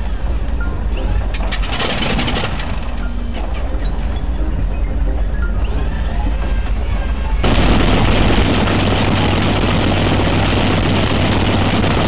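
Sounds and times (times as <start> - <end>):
radial aircraft engine running: 0.0 - 12.0.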